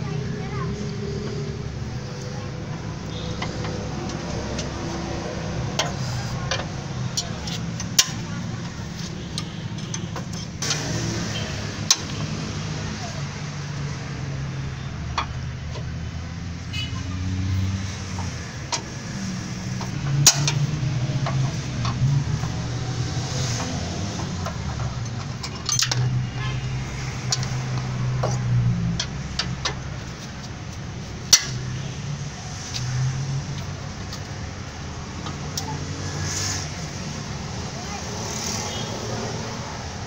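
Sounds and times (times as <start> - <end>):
low vehicle rumble: 0.0 - 40.0.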